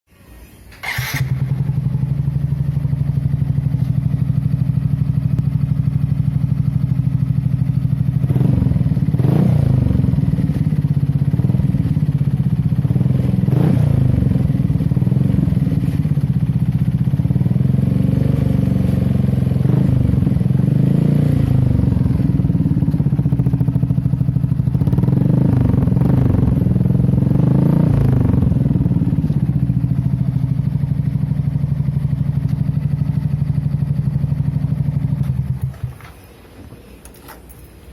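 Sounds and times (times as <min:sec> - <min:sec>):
scooter engine idling and revving: 0:00.7 - 0:36.1.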